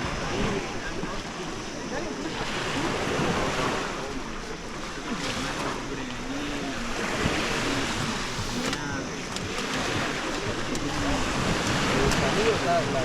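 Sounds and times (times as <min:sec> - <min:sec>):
indistinct voices: 0:00.0 - 0:13.0
sea waves washing on shore: 0:00.0 - 0:13.0.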